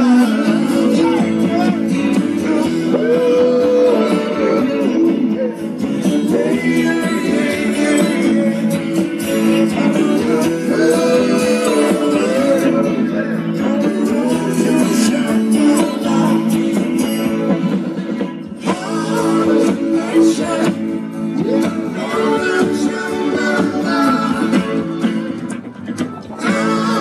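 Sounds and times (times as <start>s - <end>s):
man singing lead vocal: 0.0s - 17.8s, 18.5s - 27.0s
bass guitar: 0.0s - 27.0s
drums: 0.0s - 27.0s
electric guitars: 0.0s - 27.0s.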